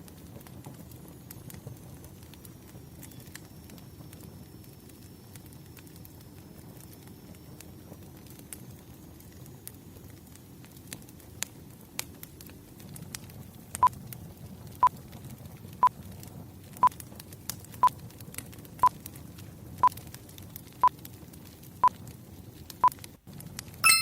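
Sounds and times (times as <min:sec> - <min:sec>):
wood fire crackling: 0:00.0 - 0:23.8.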